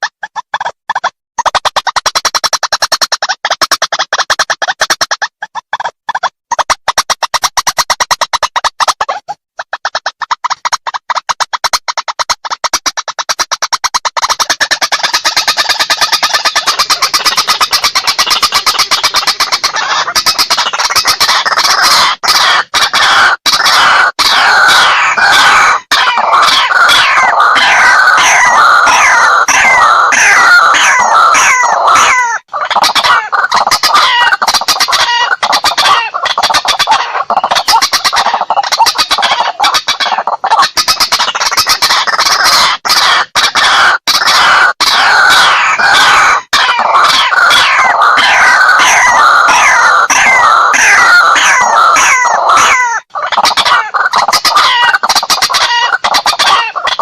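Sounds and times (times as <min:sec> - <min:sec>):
waterhen clucking and croaking: 0:00.0 - 0:57.0.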